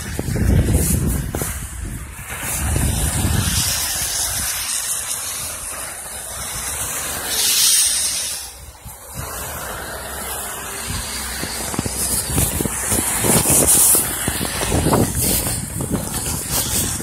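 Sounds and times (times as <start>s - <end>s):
car tyres hissing on wet road: 0.0s - 17.0s.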